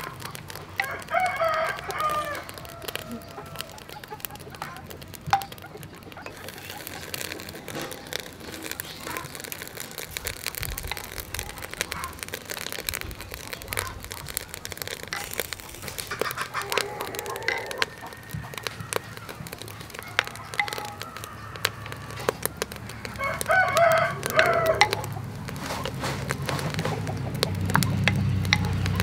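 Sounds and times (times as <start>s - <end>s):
clams sizzling on a grill: 0.0s - 29.0s
sharp crack: 0.0s - 29.0s.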